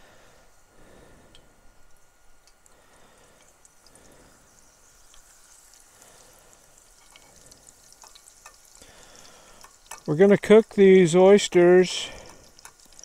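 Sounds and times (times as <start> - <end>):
butter sizzling in oil: 1.8 - 13.0.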